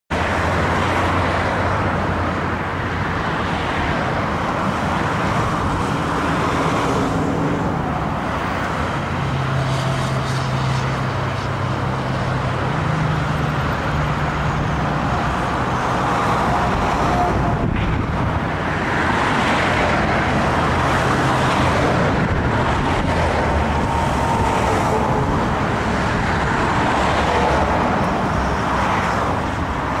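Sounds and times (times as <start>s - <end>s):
motorway traffic rushing: 0.1s - 30.0s
truck engine hum: 0.1s - 30.0s.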